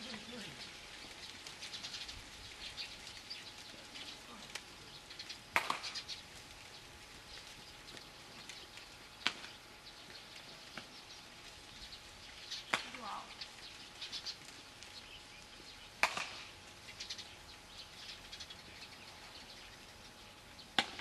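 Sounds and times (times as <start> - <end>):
bird-like chirps: 0.0 - 21.0
outdoor ambience: 0.0 - 21.0.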